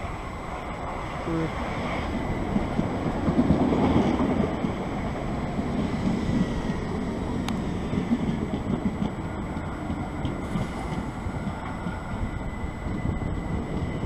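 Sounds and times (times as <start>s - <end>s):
electric train rumbling: 0.0s - 14.0s
wind buffeting microphone: 0.0s - 14.0s.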